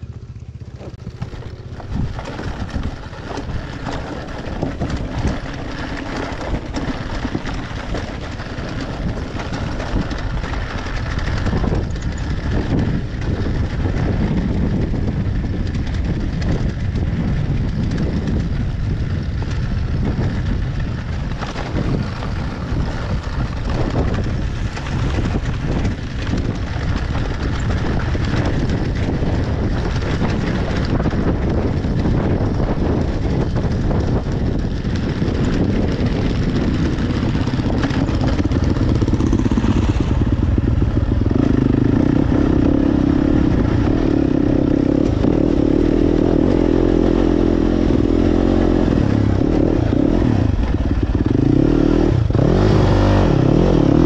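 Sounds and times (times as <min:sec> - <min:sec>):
dirt bike engine idling: 0:00.0 - 0:54.0
wind buffeting microphone: 0:00.0 - 0:54.0.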